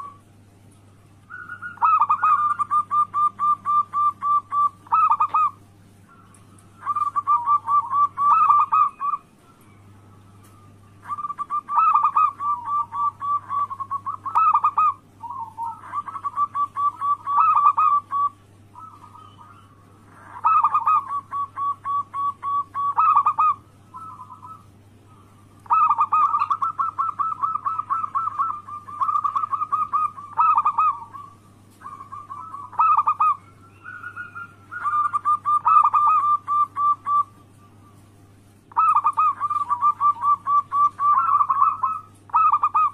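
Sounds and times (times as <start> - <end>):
dove cooing: 0.0 - 0.3, 1.3 - 42.9
low steady hum: 0.0 - 42.9.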